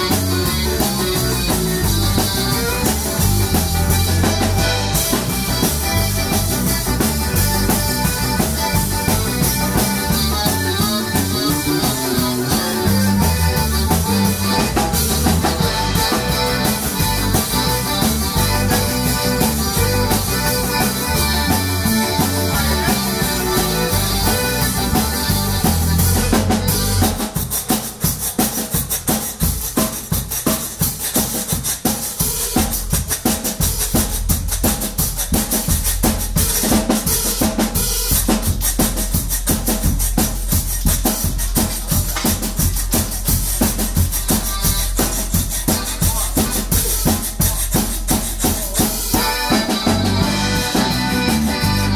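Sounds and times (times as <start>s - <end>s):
electric bass: 0.0s - 27.5s, 32.2s - 51.9s
accordion melody: 0.0s - 51.9s
drum kit: 0.0s - 51.9s.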